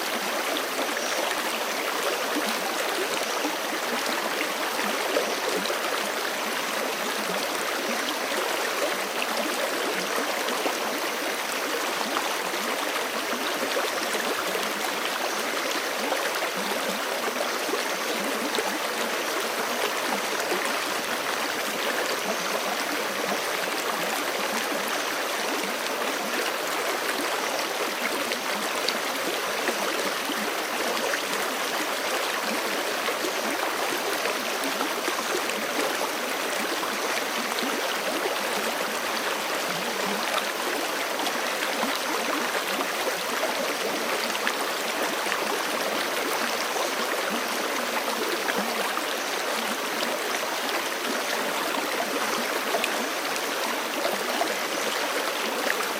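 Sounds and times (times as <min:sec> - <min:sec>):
stream flowing over rocks: 0:00.0 - 0:55.9.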